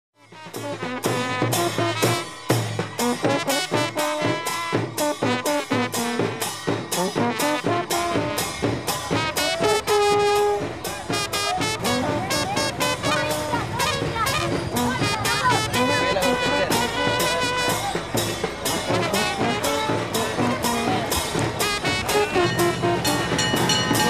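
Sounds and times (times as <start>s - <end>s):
brass band horns playing: 0.2s - 24.0s
steady drum beat: 0.2s - 24.0s.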